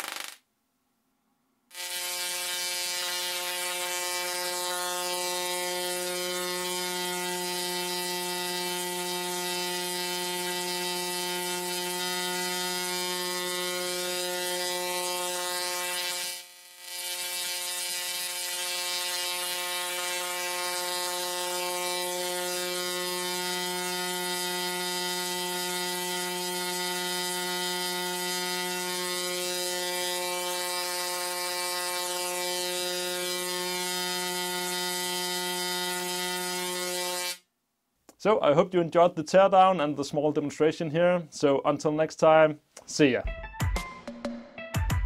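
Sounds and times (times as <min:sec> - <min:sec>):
tesla coil buzzing: 0:00.0 - 0:00.4, 0:01.7 - 0:37.5.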